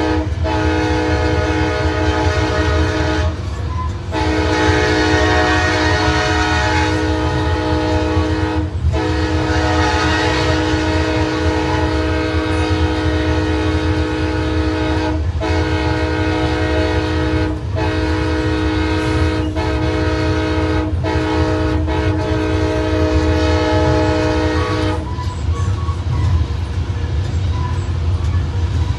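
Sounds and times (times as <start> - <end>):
locomotive air horn blasts: 0.0 - 25.3
train rumble: 0.0 - 28.9.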